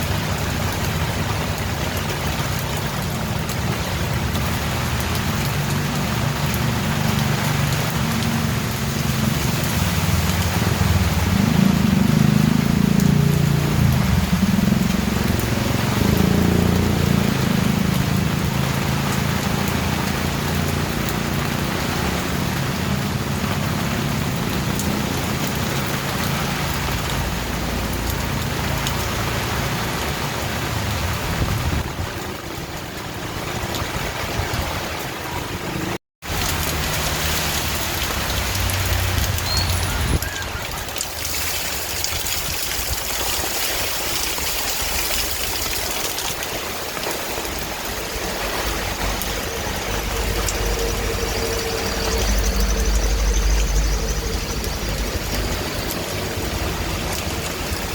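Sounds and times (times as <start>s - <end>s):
steady rain: 0.0s - 57.9s.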